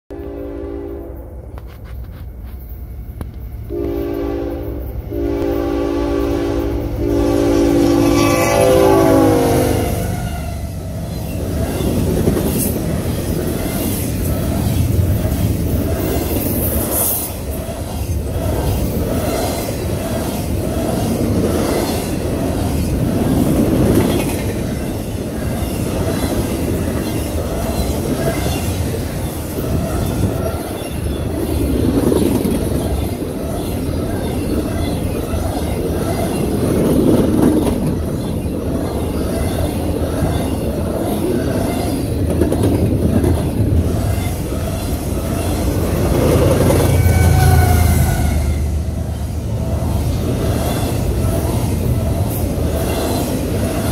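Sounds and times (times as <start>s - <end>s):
freight train rolling past: 0.1s - 53.9s.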